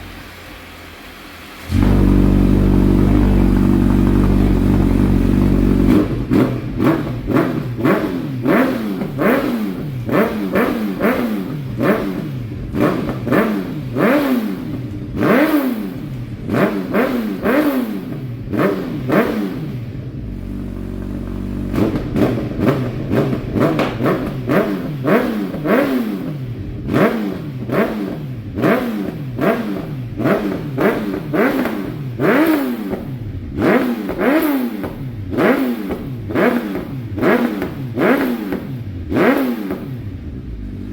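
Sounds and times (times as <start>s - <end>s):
motorcycle engine revving: 1.6s - 40.9s.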